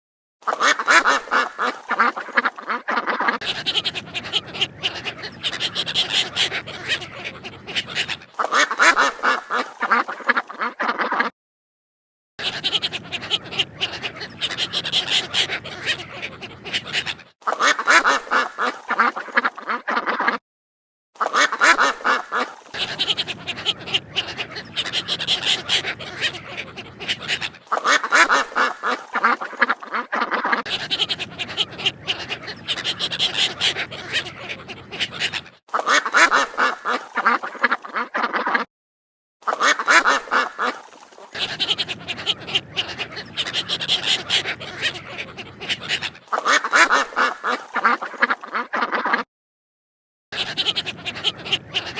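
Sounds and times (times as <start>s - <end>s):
ducks quacking: 0.4s - 11.3s, 12.4s - 20.4s, 21.2s - 38.7s, 39.4s - 49.3s, 50.4s - 51.9s.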